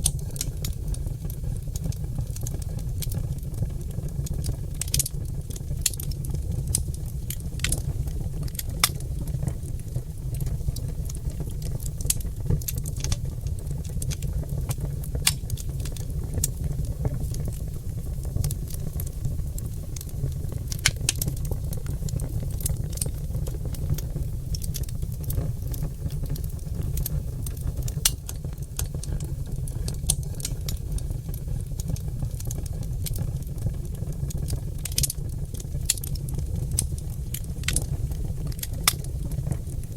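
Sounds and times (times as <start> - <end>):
logs crackling and popping: 0.0 - 39.9
low fire rumble: 0.0 - 39.9.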